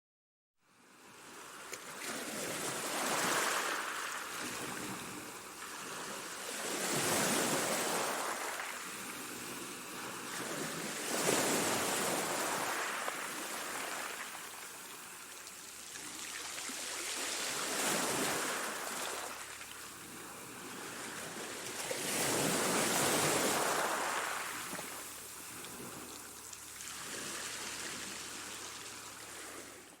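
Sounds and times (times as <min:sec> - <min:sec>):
waves washing: 0:01.3 - 0:29.9.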